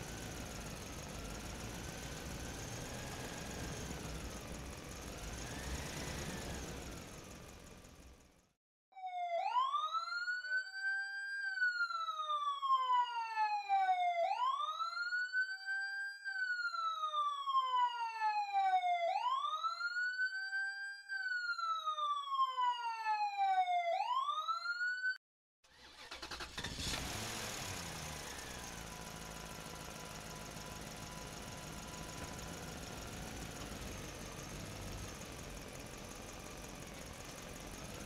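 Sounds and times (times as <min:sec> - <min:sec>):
police siren wailing: 0:00.1 - 0:07.5, 0:08.9 - 0:25.2, 0:27.7 - 0:38.0.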